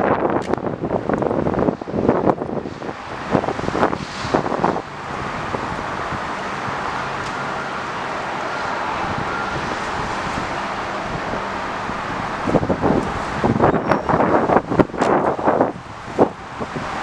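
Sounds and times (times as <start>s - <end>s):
wind gusts buffeting microphone: 0.0s - 17.0s
wind rushing: 0.0s - 17.0s.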